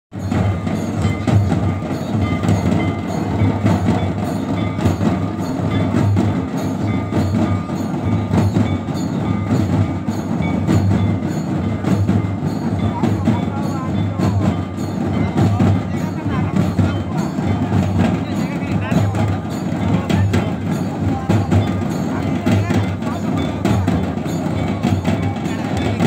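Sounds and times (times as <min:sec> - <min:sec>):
rapid drum strikes: 0:00.1 - 0:26.0.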